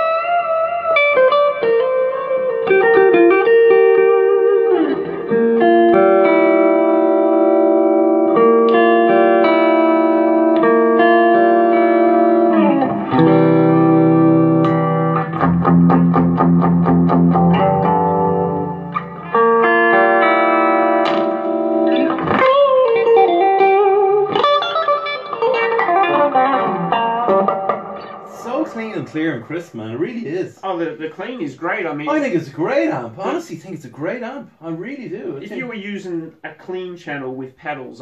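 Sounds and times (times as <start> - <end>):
electric guitar playing: 0.0 - 33.4.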